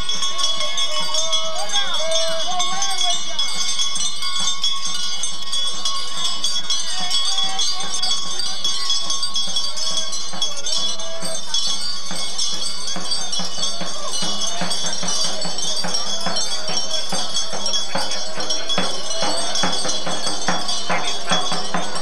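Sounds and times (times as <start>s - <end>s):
metallic jingling and rattling: 0.0s - 22.0s
voices: 0.0s - 22.0s.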